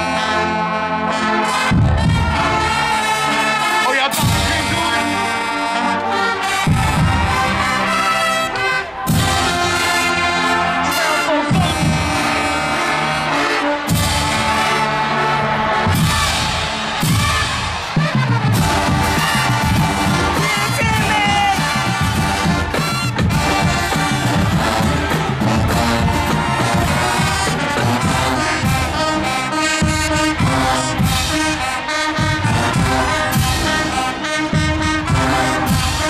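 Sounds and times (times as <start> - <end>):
brass playing a tune: 0.0 - 36.0.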